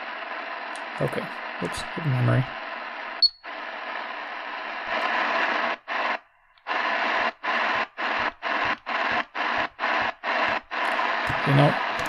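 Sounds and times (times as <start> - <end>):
radio static and hiss: 0.0 - 12.0.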